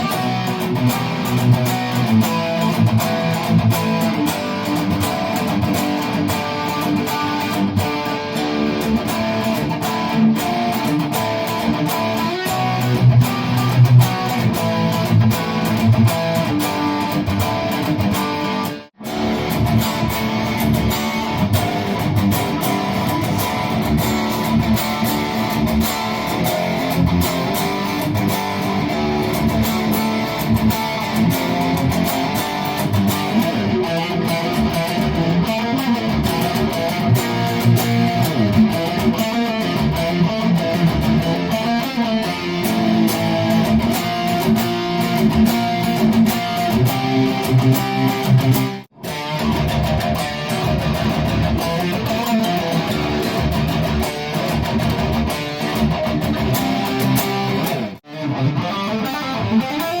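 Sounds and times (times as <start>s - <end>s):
distorted electric guitar lead: 0.0s - 60.0s.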